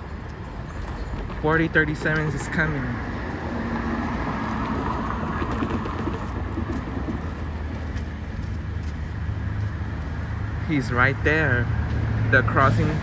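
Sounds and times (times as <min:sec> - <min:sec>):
diesel locomotive engine rumble: 0:00.0 - 0:13.0
road traffic noise: 0:00.0 - 0:13.0.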